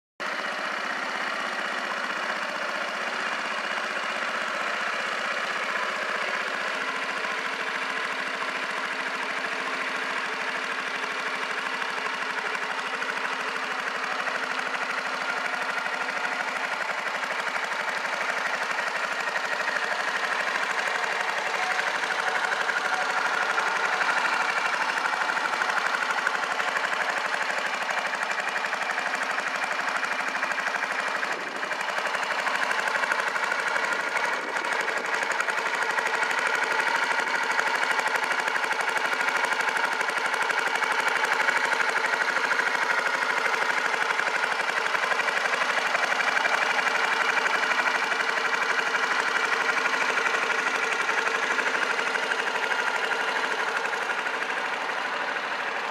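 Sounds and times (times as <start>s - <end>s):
scooter engine idling: 0.2s - 55.9s.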